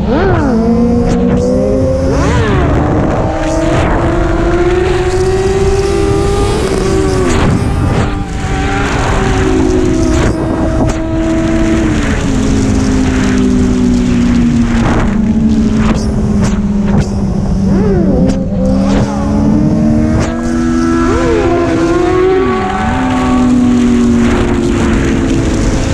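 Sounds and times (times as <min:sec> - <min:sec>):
motorcycle engine running hard: 0:00.0 - 0:25.9
wind rushing over microphone: 0:00.0 - 0:25.9.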